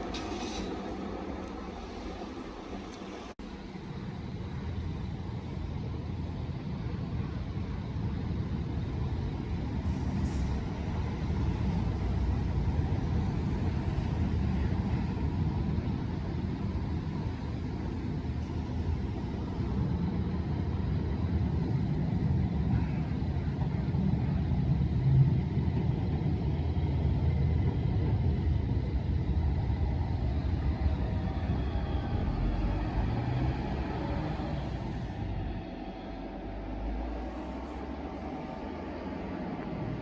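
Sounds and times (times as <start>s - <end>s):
tram rumbling: 0.0s - 40.0s.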